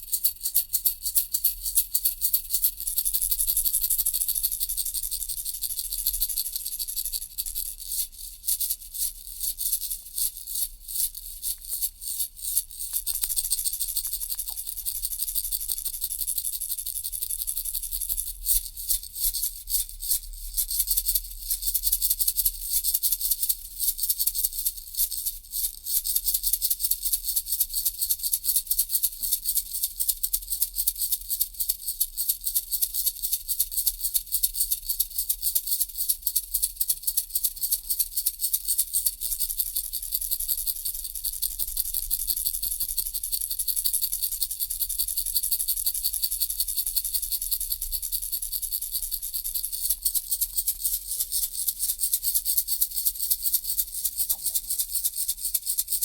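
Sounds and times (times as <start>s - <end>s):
baby rattle shaking: 0.1s - 20.9s, 31.4s - 56.0s.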